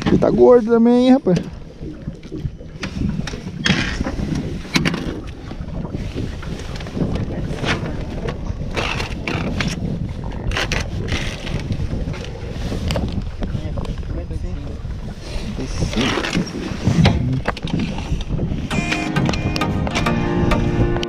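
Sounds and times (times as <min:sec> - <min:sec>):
boat engine low rumble: 0:00.0 - 0:21.0.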